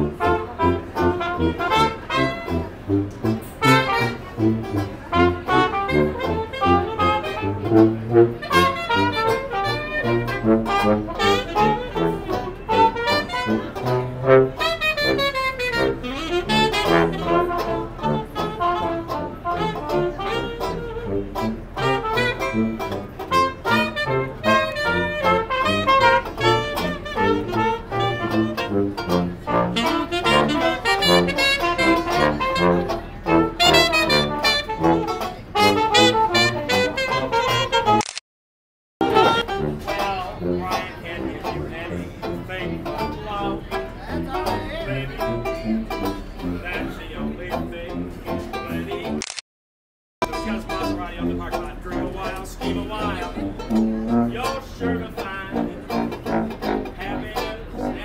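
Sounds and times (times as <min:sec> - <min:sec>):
strummed banjo: 0:00.0 - 0:37.9, 0:39.0 - 0:49.2, 0:50.2 - 0:58.0
tuba: 0:00.0 - 0:38.0, 0:39.0 - 0:49.2, 0:50.2 - 0:58.0
brass horns and saxophone: 0:00.0 - 0:38.2, 0:39.0 - 0:49.4, 0:50.2 - 0:58.0.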